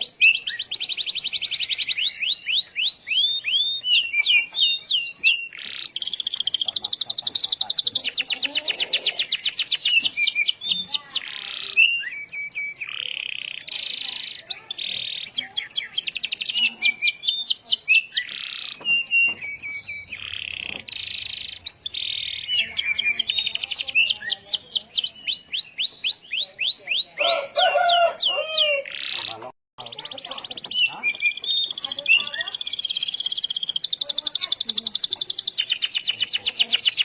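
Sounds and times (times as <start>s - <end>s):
canary singing: 0.0s - 37.0s.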